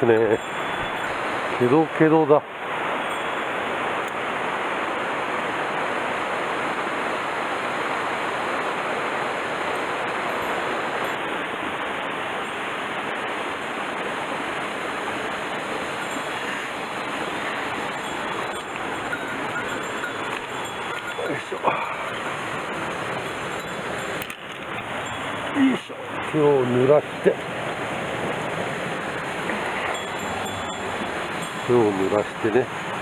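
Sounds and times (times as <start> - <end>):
mountain stream rushing: 0.0 - 33.0.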